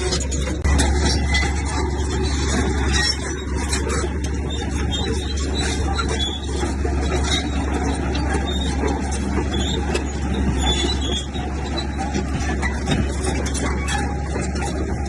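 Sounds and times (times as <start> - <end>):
diesel machinery engine hum: 0.0 - 15.0
high-pitched machine squeaks: 0.0 - 15.0.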